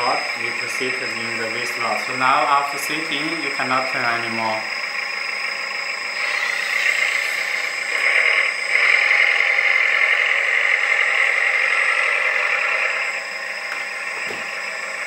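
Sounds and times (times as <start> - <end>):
simulated diesel engine sound: 0.0 - 15.0
whir of hydraulic pump and motors: 0.0 - 15.0.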